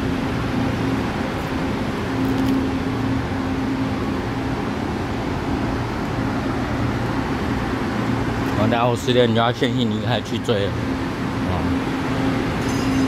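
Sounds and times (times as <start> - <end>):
train machinery humming: 0.0 - 13.0.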